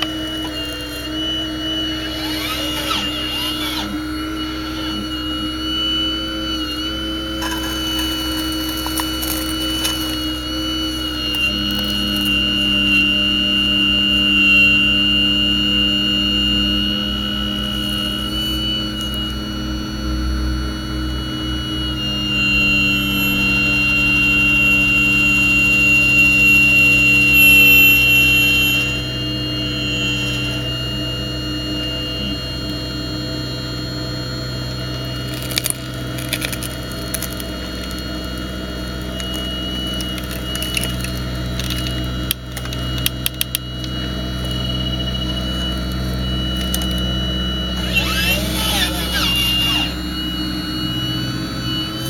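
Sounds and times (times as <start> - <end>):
toy excavator motors whining: 0.0 - 33.4, 34.0 - 52.0.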